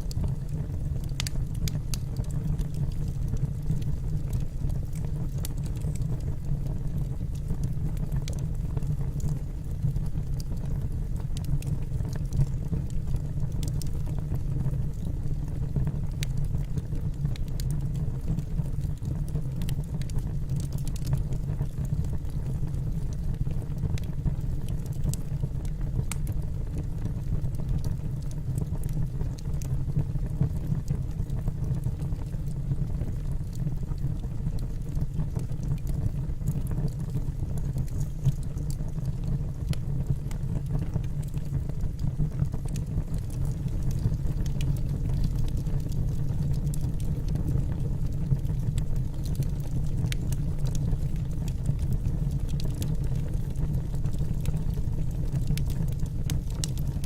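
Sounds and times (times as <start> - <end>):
low rumble of fire: 0.0 - 57.0
wood crackling and popping: 0.0 - 57.0.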